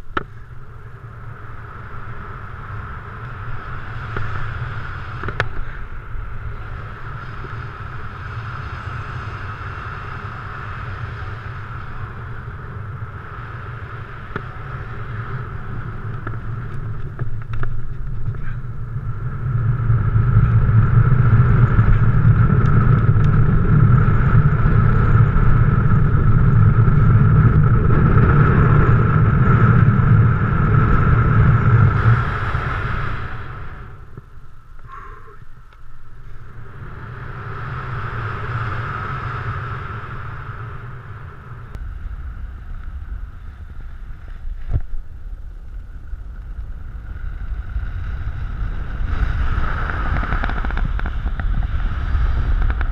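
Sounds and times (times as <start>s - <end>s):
steady wind whistle: 0.0s - 52.9s
wind buffeting microphone: 0.0s - 52.9s.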